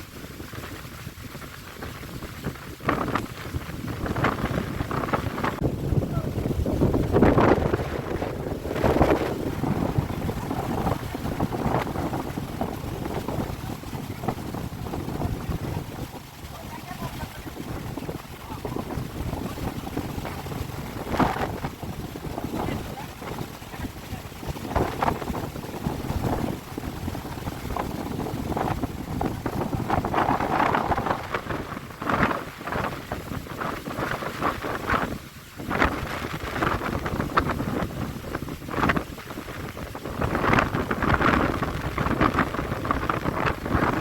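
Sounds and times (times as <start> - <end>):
choppy waves splashing: 0.0 - 44.0
rain: 0.0 - 44.0
rough river water: 0.0 - 44.0
strong wind buffeting microphone: 0.0 - 44.0.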